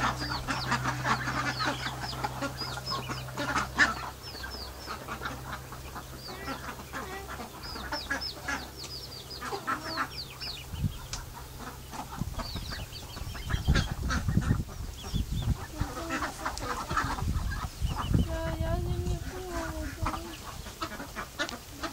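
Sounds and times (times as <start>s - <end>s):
ducks quacking: 0.0s - 21.9s
irregular low rumble: 0.0s - 21.9s.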